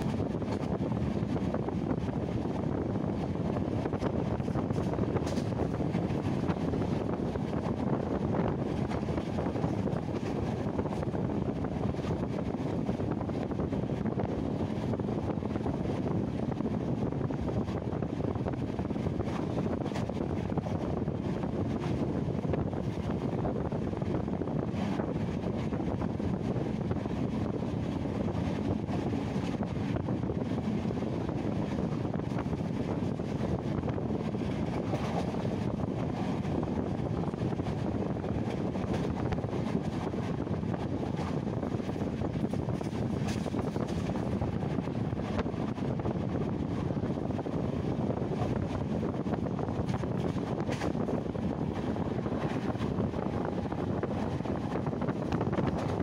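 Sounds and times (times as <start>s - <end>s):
train rumbling on track: 0.0s - 56.0s
wind rushing past microphone: 0.0s - 56.0s.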